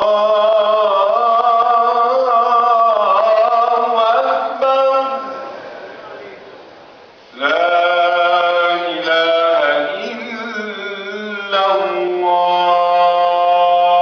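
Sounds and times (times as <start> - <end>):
man chanting call to prayer: 0.0 - 6.4, 7.4 - 14.0.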